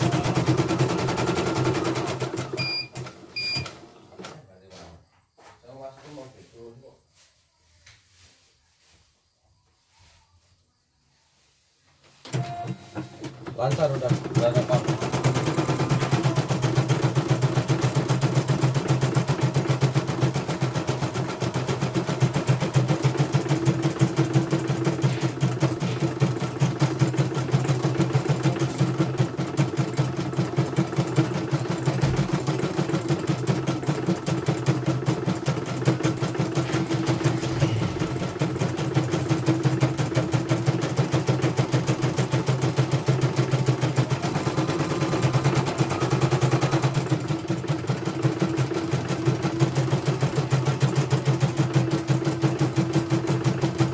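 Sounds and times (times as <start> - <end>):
embroidery machine stitching: 0.0 - 4.4, 12.3 - 53.9.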